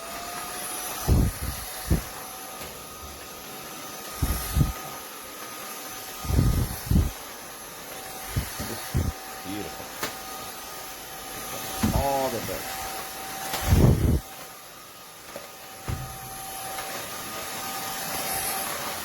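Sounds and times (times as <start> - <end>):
vacuum cleaner whining: 0.0 - 19.0.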